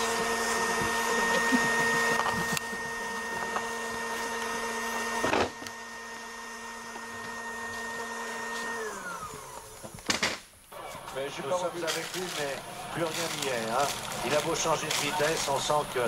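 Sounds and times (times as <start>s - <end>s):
appliance motor whining: 0.0s - 16.0s.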